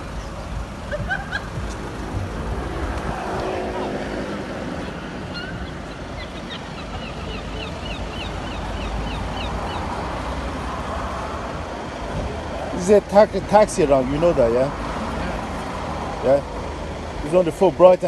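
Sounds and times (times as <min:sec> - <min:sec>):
traffic rumble: 0:00.0 - 0:18.0
wind: 0:00.0 - 0:18.0.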